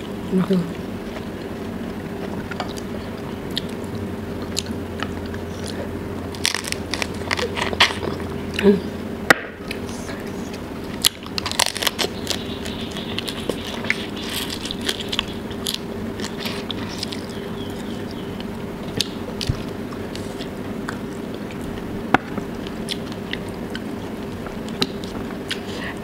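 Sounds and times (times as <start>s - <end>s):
chewing and crunching prawns: 2.2s - 8.7s, 10.8s - 21.9s, 22.6s - 26.0s.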